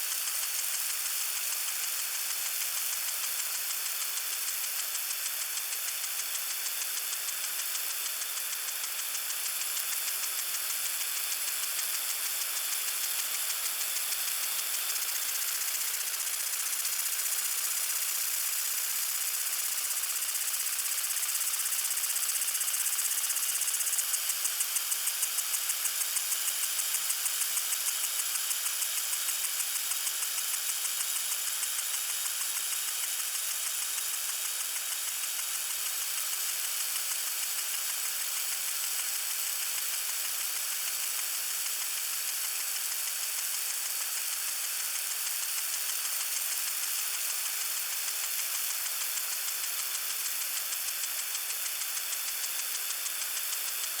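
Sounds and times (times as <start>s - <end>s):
lawn sprinkler hissing: 0.0s - 54.0s
sprinkler fast pulsing: 0.1s - 28.3s, 28.9s - 54.0s.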